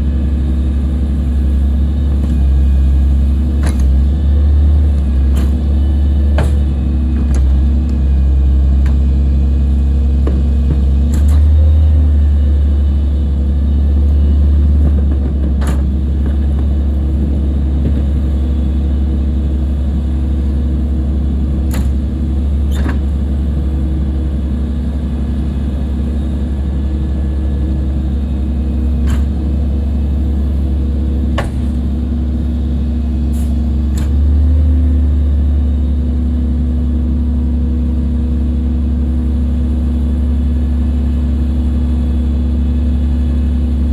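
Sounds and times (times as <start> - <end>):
garbage truck engine rumbling: 0.0 - 43.9.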